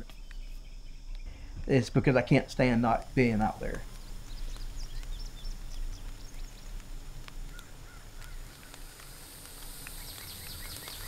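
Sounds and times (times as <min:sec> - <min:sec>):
birds chirping: 0:00.0 - 0:11.0
high insect hum: 0:00.0 - 0:11.0.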